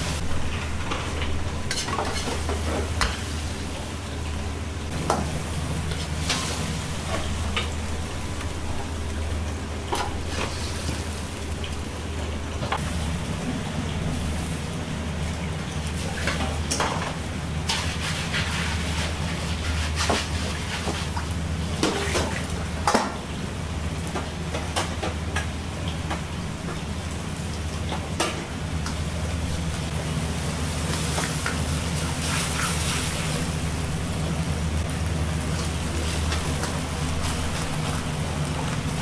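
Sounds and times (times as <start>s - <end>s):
food sizzling in a wok: 0.0s - 0.2s, 1.6s - 4.2s, 4.9s - 11.7s, 15.8s - 39.0s
low rumble of wok burner: 0.0s - 39.0s.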